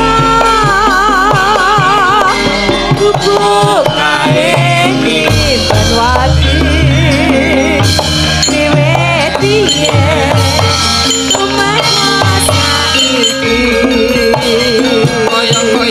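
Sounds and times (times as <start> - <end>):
gamelan percussion: 0.0 - 15.9
hand drum strokes: 0.0 - 15.9
woman singing with vibrato: 0.0 - 15.9.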